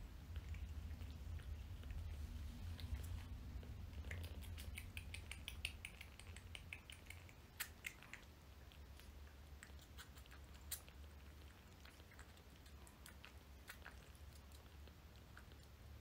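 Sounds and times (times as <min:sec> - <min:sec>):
kitten suckling wet clicks: 0:00.2 - 0:16.0.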